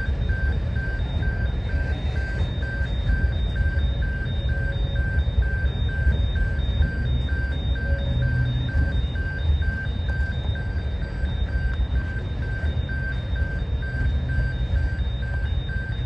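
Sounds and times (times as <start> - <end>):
continuous low rumble: 0.0 - 16.0
level crossing warning bell ringing: 0.0 - 16.0.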